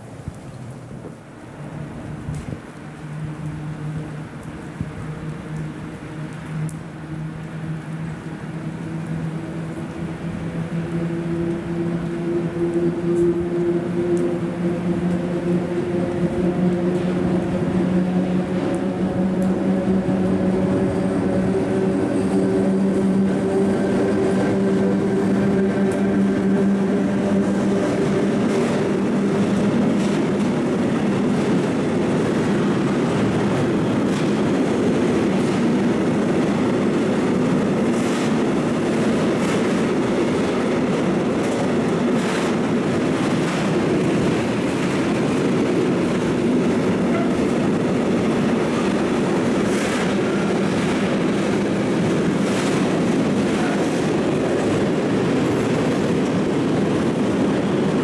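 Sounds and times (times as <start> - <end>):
electric locomotive hum: 0.9 - 58.0
freight wagons rumbling past: 3.3 - 58.0.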